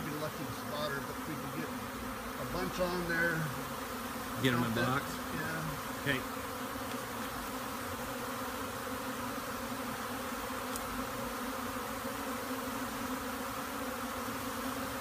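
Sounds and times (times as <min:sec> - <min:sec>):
swarm of bees buzzing: 0:00.0 - 0:15.0.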